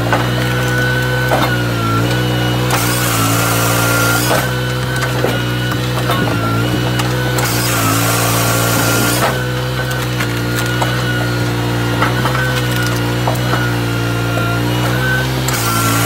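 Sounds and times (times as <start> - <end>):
firewood processor engine humming: 0.0 - 16.0
logs cracking as they split: 0.0 - 16.0
machine whine: 0.0 - 16.0.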